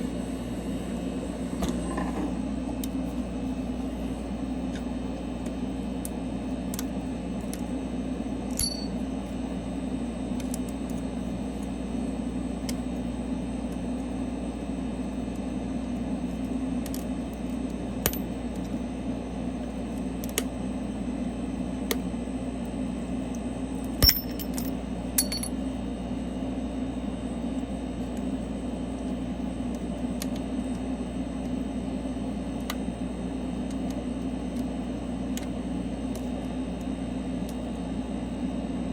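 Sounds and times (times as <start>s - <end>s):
freezer machine hum: 0.0s - 38.9s.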